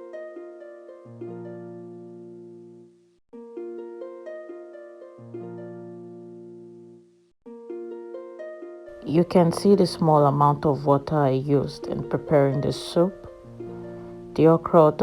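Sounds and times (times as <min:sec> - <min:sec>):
plucked melodic background music: 0:00.0 - 0:15.0.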